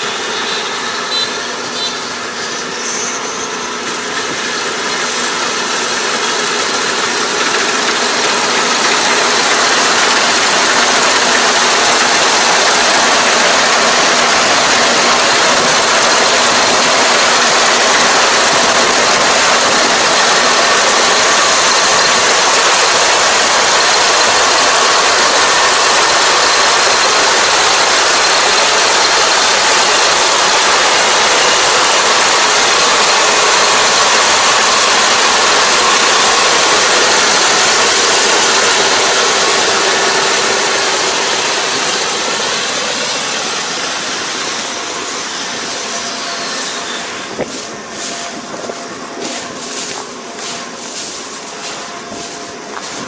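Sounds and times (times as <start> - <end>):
farm machine engine running: 0.0 - 53.0.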